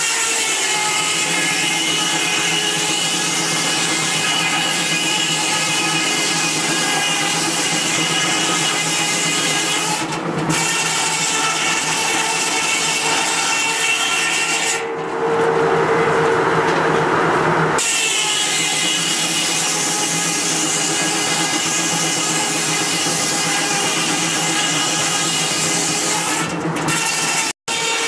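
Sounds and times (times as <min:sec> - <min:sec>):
saw blade cutting log: 0:00.0 - 0:14.9, 0:17.8 - 0:28.0.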